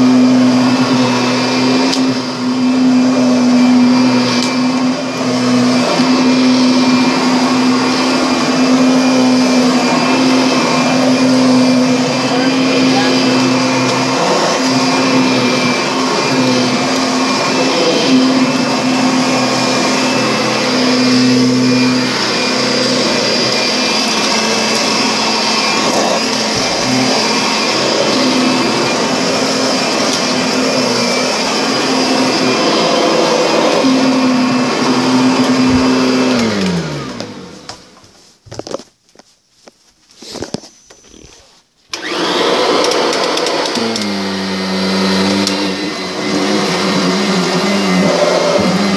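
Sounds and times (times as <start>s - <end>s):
vacuum motor spinning down: 0.0s - 37.5s, 42.0s - 48.9s
vacuum cleaner running: 0.0s - 38.1s, 40.2s - 48.9s.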